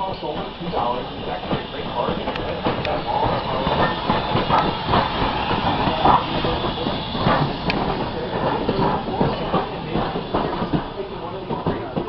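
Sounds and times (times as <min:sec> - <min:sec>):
running gear clanking: 0:00.0 - 0:12.0
steam hiss: 0:00.0 - 0:12.0
steel wheels on rails: 0:00.0 - 0:12.0.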